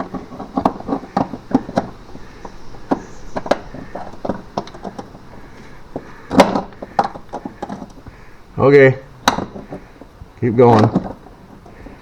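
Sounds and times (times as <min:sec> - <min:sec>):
cable hardware clicks and knocks: 0:00.0 - 0:08.3, 0:09.2 - 0:12.0.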